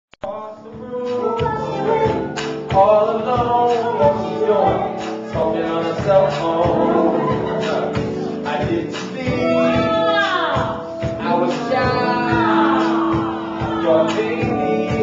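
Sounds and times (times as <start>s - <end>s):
drum and cymbal hits: 0.7s - 15.0s
singers vocalising: 0.8s - 15.0s
soul band playing live: 0.8s - 15.0s.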